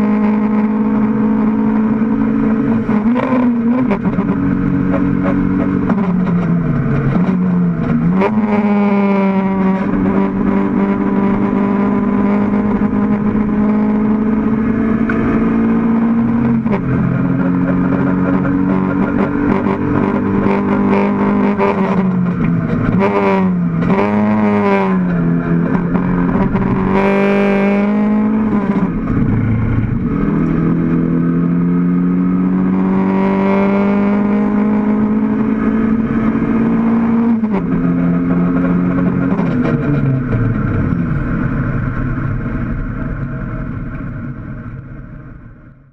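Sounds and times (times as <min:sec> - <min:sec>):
race car engine running hard: 0:00.0 - 0:45.7.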